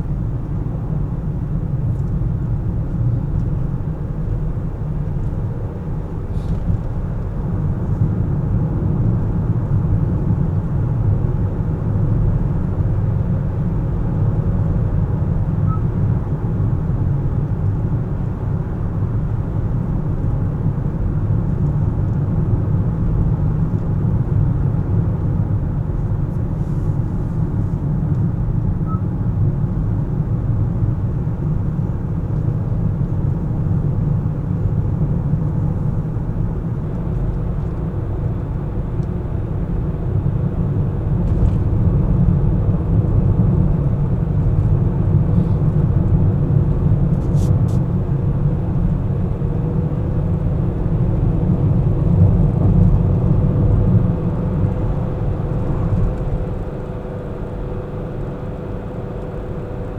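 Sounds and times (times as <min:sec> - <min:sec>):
tyres and engine rumble: 0:00.0 - 0:59.9.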